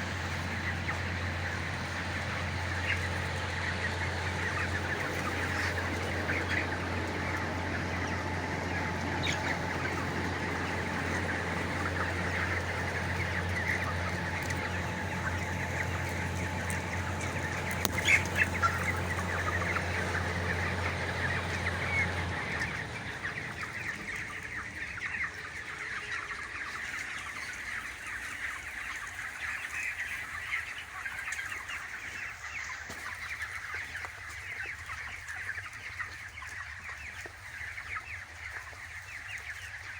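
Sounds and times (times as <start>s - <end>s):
chicks peeping and chickens clucking: 0.0s - 39.9s.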